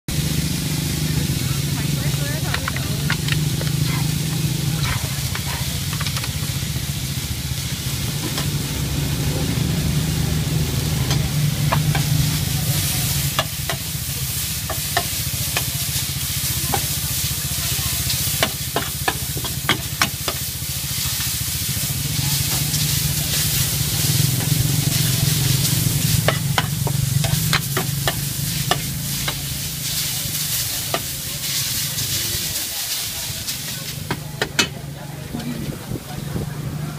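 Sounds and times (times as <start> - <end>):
noodles sizzling on iron pan: 0.1 - 35.1.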